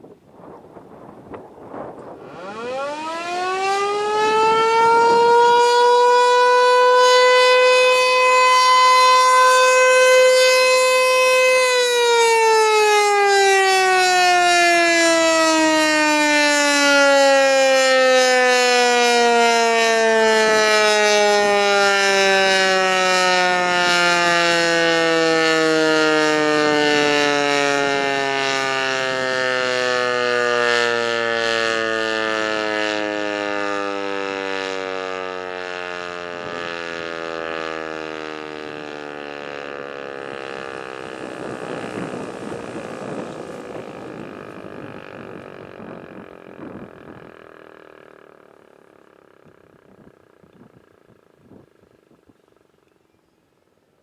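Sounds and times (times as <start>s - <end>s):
warning siren winding down: 0.4s - 52.7s.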